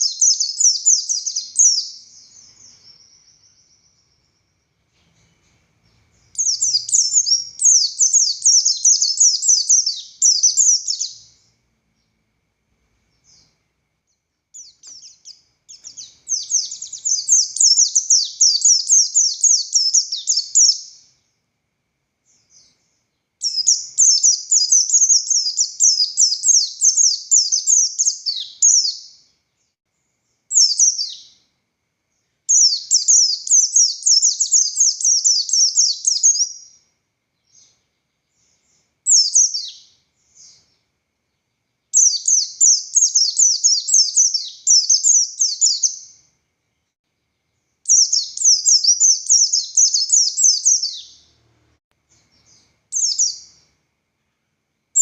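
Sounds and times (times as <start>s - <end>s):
bird chattering song: 0.0s - 12.2s, 13.1s - 21.3s, 22.3s - 29.3s, 30.4s - 31.4s, 32.5s - 36.8s, 37.4s - 40.9s, 41.9s - 46.3s, 47.9s - 51.4s, 52.2s - 53.7s.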